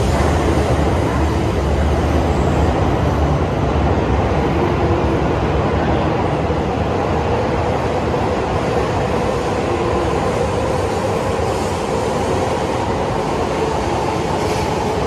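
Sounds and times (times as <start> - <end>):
faint train hum: 0.0 - 15.0
train wheels rumbling on rail: 0.0 - 15.0.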